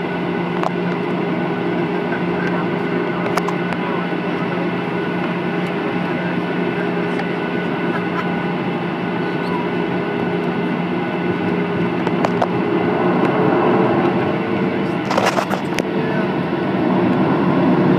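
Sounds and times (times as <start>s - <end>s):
jet engines humming in cabin: 0.0s - 17.9s.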